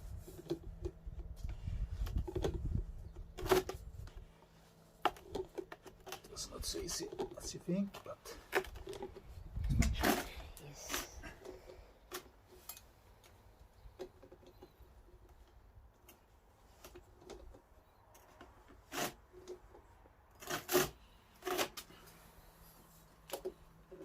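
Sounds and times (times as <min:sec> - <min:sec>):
small clicks and rubbing: 0:00.2 - 0:24.0.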